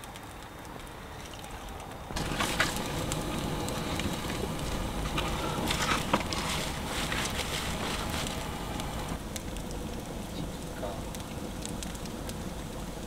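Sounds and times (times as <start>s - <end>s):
fire hissing: 0.0s - 13.0s
firewood crackling and popping: 0.0s - 13.0s.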